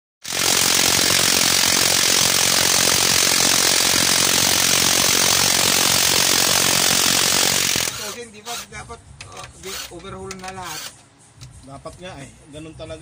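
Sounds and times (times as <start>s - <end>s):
impact wrench rattling: 0.2s - 11.6s.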